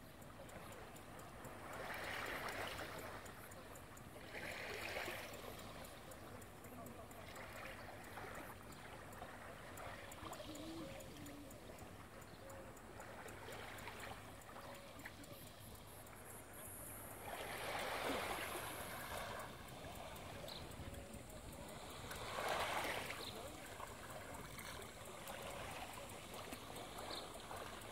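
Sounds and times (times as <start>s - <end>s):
small waves lapping over pebbles: 1.4s - 3.5s, 4.1s - 11.9s, 12.8s - 27.9s.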